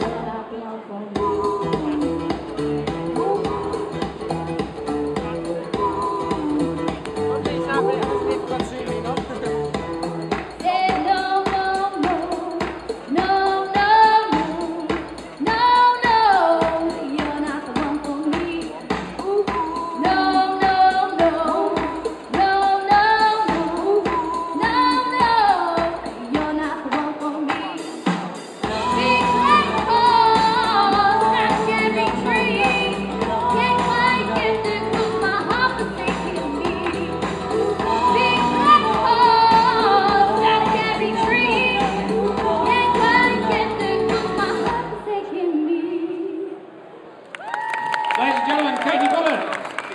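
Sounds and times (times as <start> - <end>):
woman singing: 0.0 - 46.6
backing band with beat: 1.2 - 44.8.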